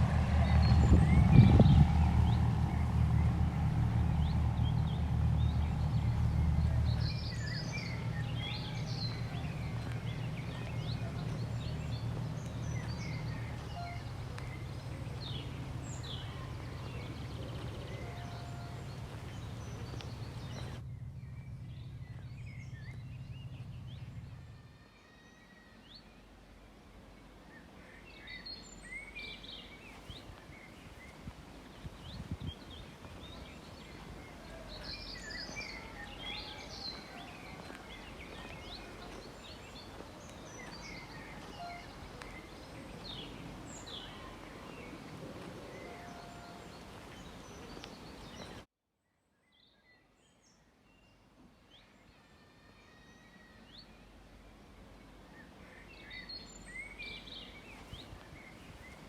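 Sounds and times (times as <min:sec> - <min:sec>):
birds chirping and singing: 0:00.0 - 0:26.2, 0:27.6 - 0:48.6.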